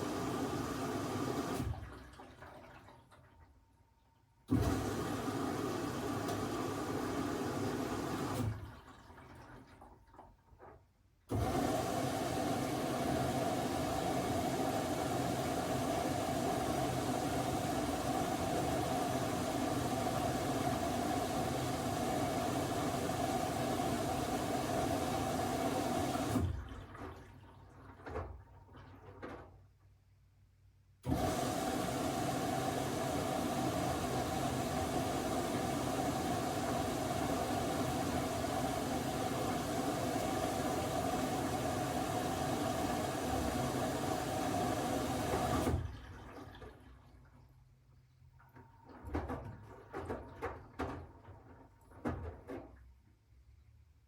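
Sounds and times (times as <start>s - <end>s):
washing machine filling with water: 0.0s - 3.8s, 4.4s - 29.8s, 31.0s - 53.0s.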